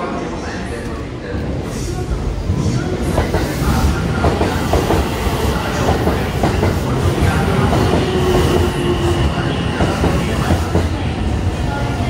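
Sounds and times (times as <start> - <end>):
electric train rumbling: 0.2 - 12.0.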